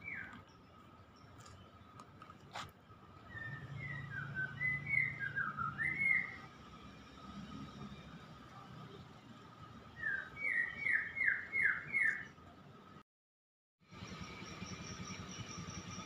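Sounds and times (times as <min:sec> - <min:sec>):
faint outdoor background: 0:00.0 - 0:13.1, 0:13.8 - 0:16.0.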